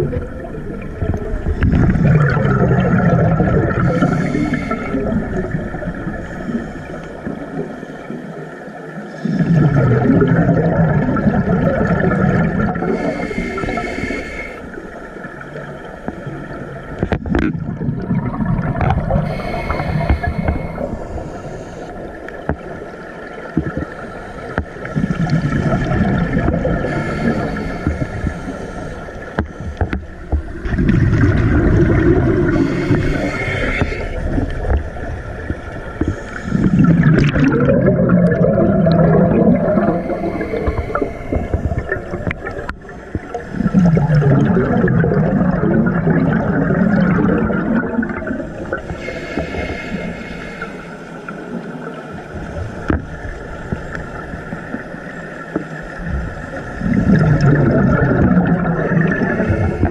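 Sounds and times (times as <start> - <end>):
underwater bubbles gurgling: 0.0 - 59.9.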